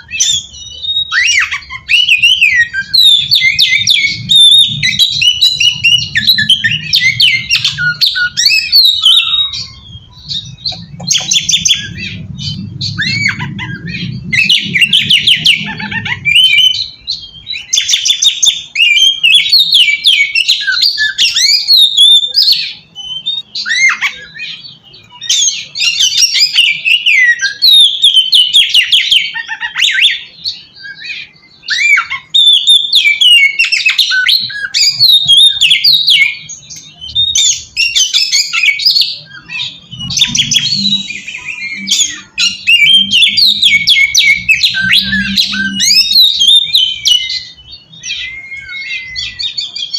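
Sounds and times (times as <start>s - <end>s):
bird singing with rapid trills: 0.0s - 49.9s.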